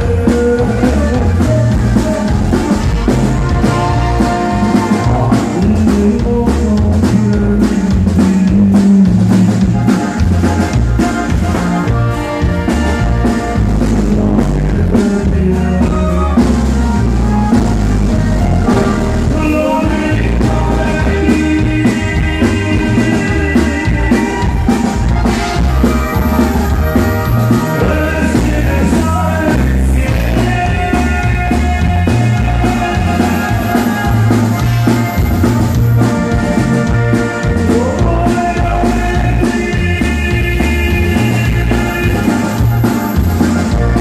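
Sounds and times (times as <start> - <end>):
live band music: 0.0 - 44.0.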